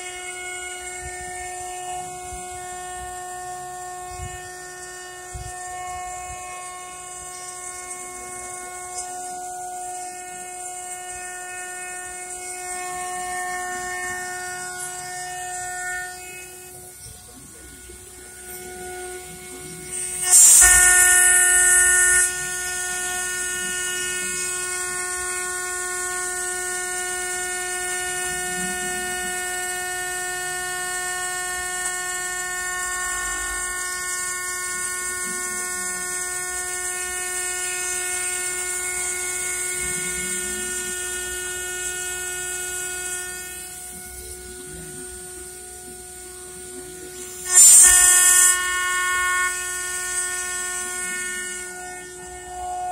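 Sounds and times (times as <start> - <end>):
milling machine cutting metal: 0.0 - 52.9.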